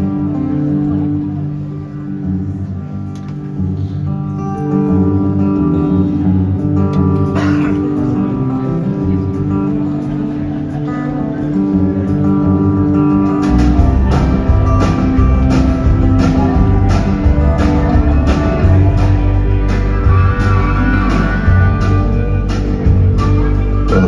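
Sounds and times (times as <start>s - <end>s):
country band playing: 0.0s - 24.0s
guitar: 0.0s - 24.0s.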